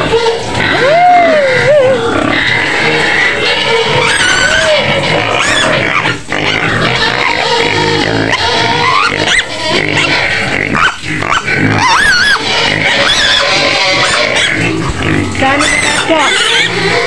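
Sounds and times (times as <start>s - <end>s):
pigs squealing: 0.0s - 17.0s.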